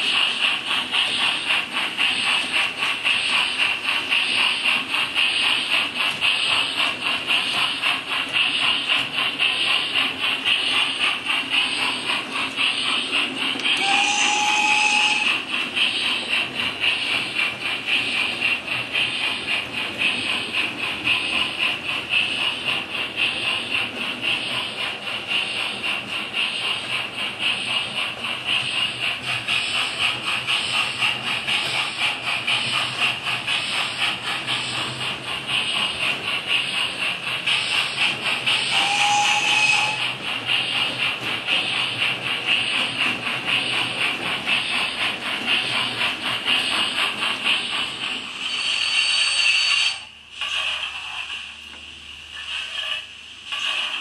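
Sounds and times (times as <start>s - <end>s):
model steam locomotive chuffing: 0.0s - 54.0s
model train running noise: 0.0s - 54.0s.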